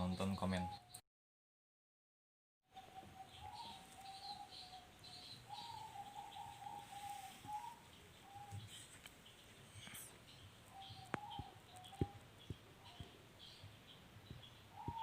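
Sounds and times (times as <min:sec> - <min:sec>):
faint bird chirps: 0:00.0 - 0:01.0, 0:02.7 - 0:15.0.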